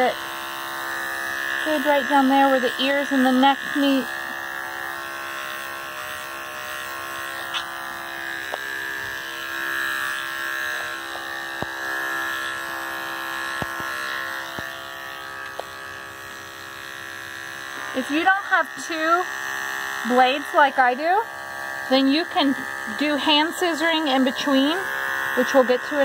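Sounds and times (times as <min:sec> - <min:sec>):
electric clippers buzzing: 0:00.0 - 0:26.0.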